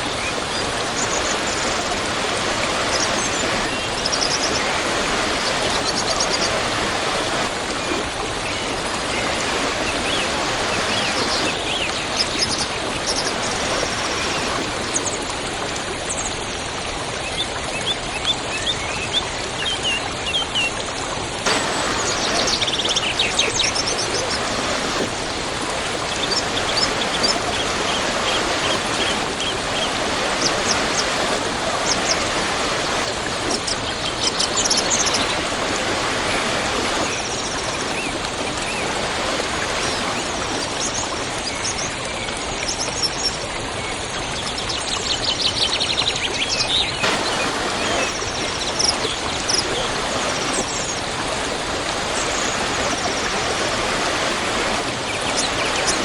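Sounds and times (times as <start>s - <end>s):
small birds chirping: 0.0s - 15.3s, 21.5s - 41.9s, 46.2s - 56.0s
waterfall rushing: 0.0s - 16.8s, 21.2s - 42.2s, 46.3s - 56.0s.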